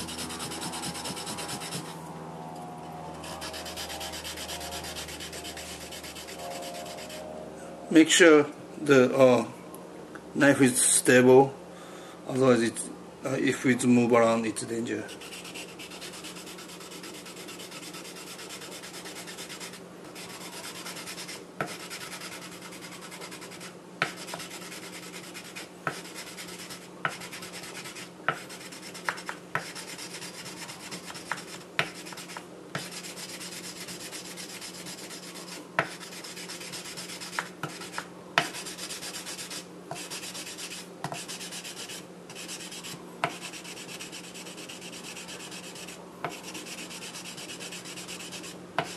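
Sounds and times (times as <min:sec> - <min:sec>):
block scrubbing knife blade: 0:00.0 - 0:02.0, 0:03.2 - 0:07.2, 0:15.1 - 0:48.9.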